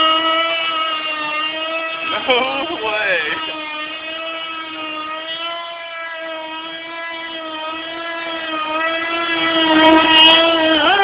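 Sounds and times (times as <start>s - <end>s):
model boat engine whining: 0.0s - 11.0s.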